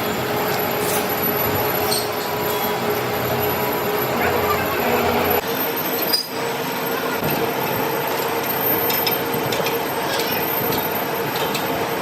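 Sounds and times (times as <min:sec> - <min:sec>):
metalworking machine humming: 0:00.0 - 0:12.0.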